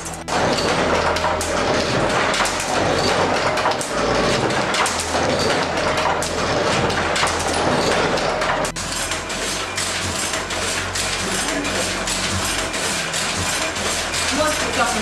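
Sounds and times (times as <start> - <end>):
printing press clattering: 0.0 - 15.0.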